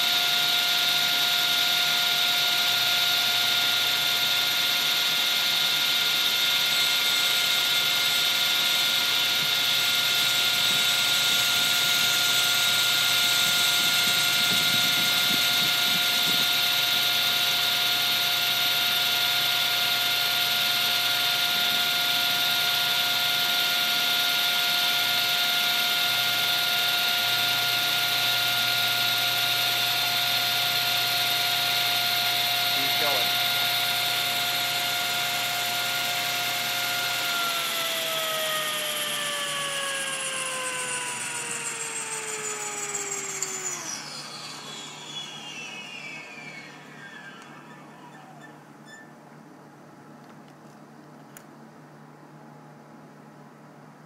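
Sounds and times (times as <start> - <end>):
table saw whine: 0.0 - 49.6.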